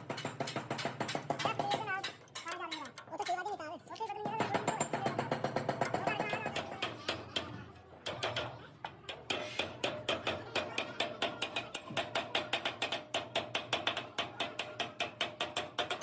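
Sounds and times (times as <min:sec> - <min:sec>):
hammer tapping on radiator metal: 0:00.0 - 0:16.0.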